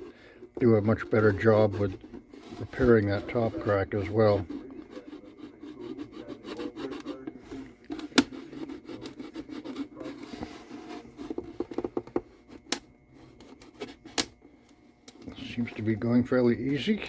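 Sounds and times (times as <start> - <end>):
tool scraping wood: 0.0 - 14.5, 15.1 - 17.0.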